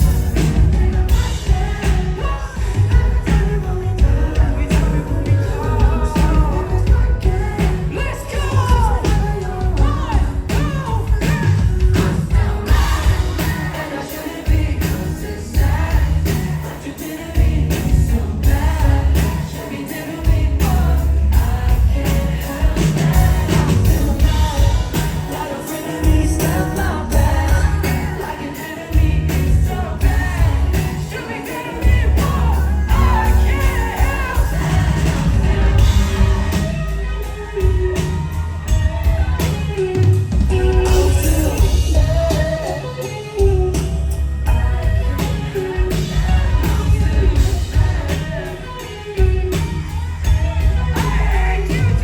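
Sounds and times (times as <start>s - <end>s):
live pop-rock concert music: 0.0s - 52.0s
person singing: 0.0s - 52.0s.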